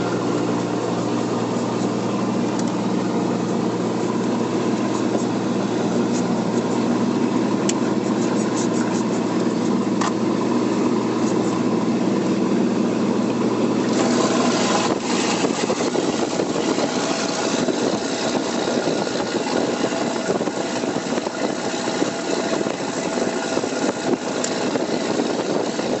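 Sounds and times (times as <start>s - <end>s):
road noise: 0.0s - 26.0s
truck engine rumble: 0.0s - 26.0s.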